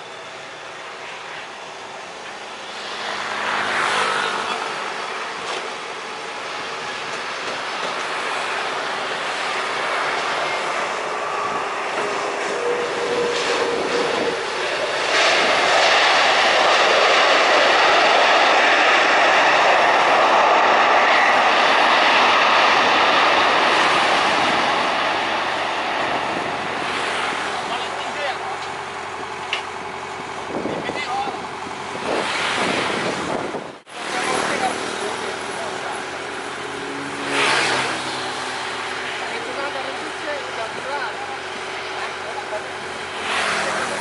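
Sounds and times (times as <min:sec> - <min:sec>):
jet airliner engine noise: 0:00.0 - 0:44.0.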